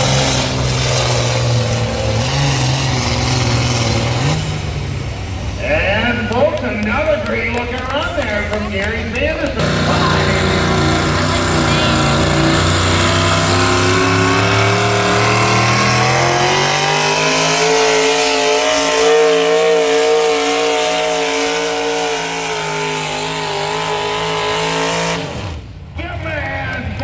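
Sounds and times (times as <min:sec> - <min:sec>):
pulling tractor engine revving: 0:00.0 - 0:27.0.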